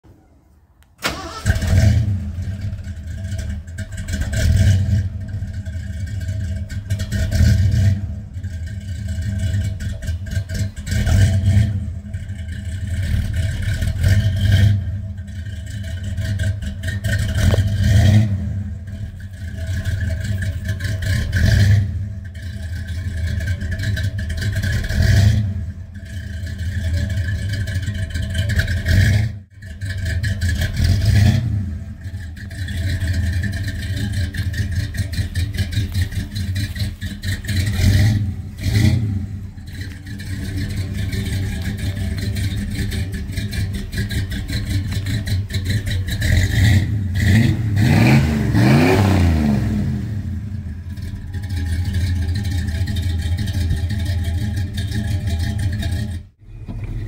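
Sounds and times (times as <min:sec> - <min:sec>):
truck engine starting and revving: 0:00.9 - 0:57.0.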